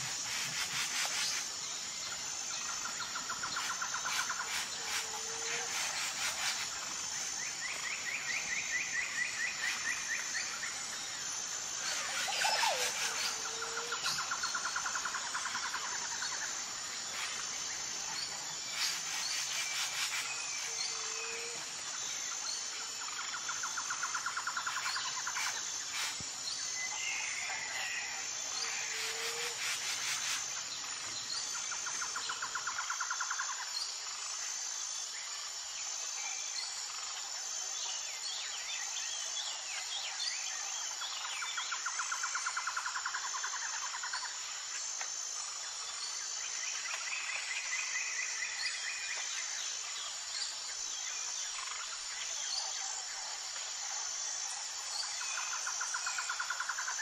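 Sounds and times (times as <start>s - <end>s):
high-pitched insect buzz: 0.0s - 57.0s.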